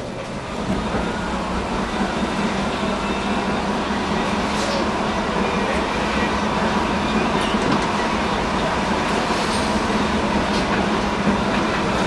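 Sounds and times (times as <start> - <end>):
tram running on track: 0.0 - 12.0.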